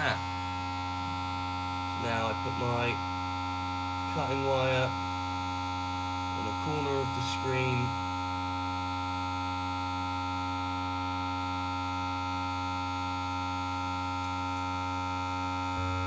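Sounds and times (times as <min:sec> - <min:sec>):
vacuum pump humming: 0:00.0 - 0:16.0.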